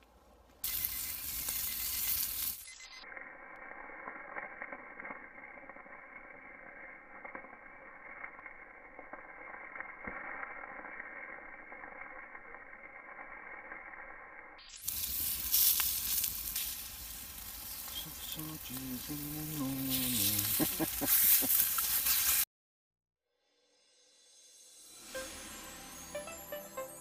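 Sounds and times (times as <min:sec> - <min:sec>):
campfire crackling: 0:00.0 - 0:22.5
sausages sizzling in frying pans: 0:00.6 - 0:22.5.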